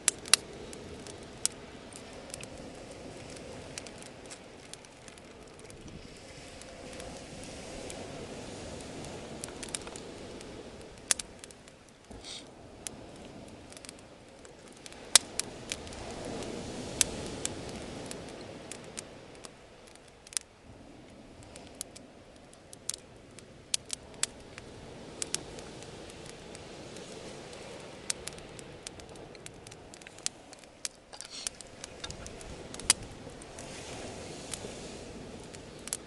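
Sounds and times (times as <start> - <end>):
bonfire crackling: 0.0 - 36.0
soft rushing of fire: 0.0 - 36.0.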